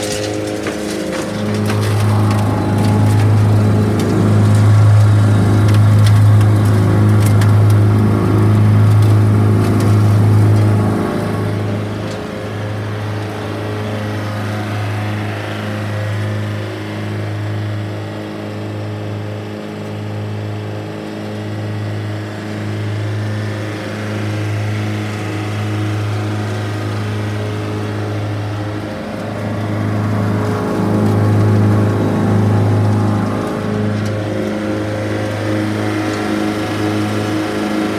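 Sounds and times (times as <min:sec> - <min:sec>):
wood chipper engine running: 0:00.0 - 0:37.9.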